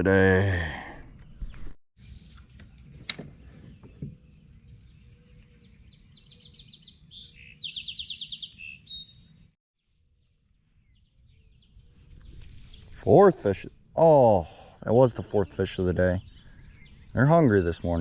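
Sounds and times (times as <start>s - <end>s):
insects droning: 0.0s - 18.0s
bird singing: 1.1s - 18.0s.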